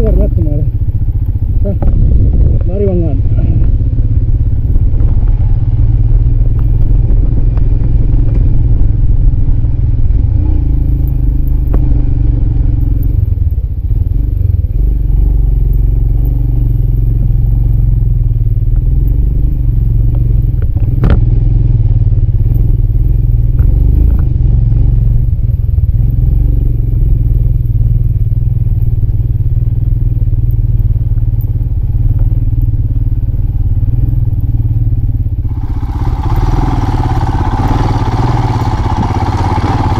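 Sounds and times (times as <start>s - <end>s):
motorcycle running: 0.0s - 39.9s.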